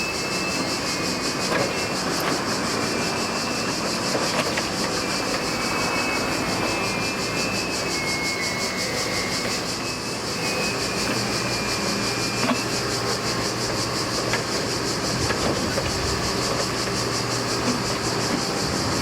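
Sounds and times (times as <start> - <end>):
faint wheel squeal: 0.0 - 19.0
freight train rumbling: 0.0 - 19.0
wheels clicking over rail joints: 0.0 - 19.0.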